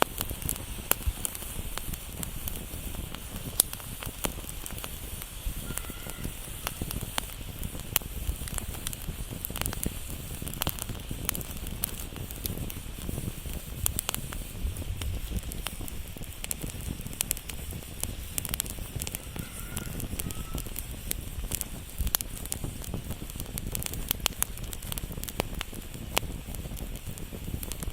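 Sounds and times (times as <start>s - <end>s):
fire crackling and popping: 0.0s - 27.9s
low rumble of flames: 0.0s - 27.9s.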